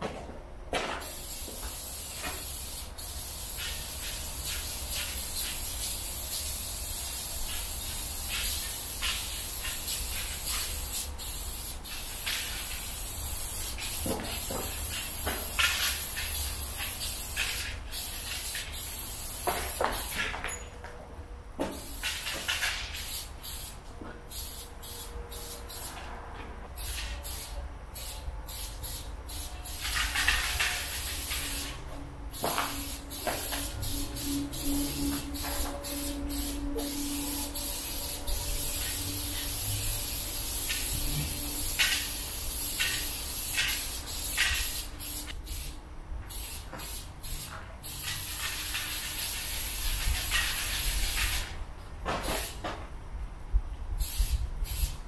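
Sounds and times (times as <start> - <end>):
spray-paint can hissing: 1.0 - 20.2, 21.7 - 26.0, 26.8 - 51.6, 52.2 - 52.6, 54.0 - 55.0.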